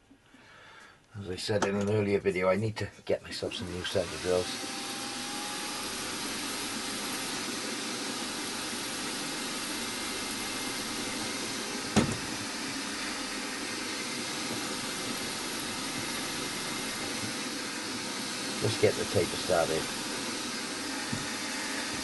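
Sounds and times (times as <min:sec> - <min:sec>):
milling machine spindle running: 0:03.7 - 0:22.0.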